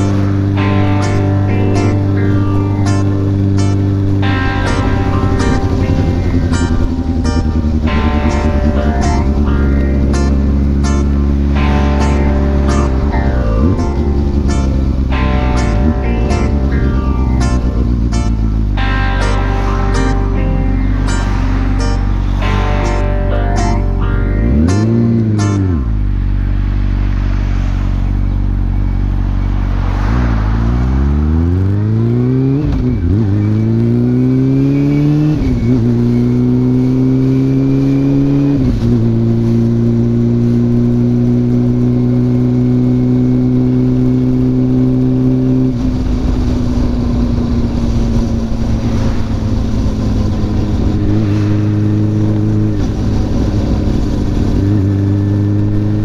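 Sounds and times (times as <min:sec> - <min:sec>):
rushing wind noise: 0:00.0 - 0:43.3, 0:45.7 - 0:56.0
engine revving blip: 0:00.0 - 0:56.0
motorcycle accelerating through gears: 0:00.0 - 0:56.0.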